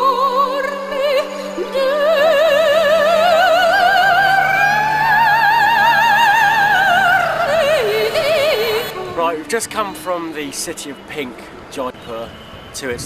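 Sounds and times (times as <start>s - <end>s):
operatic singing: 0.0s - 10.9s
low sustained accompanying note: 0.0s - 11.2s.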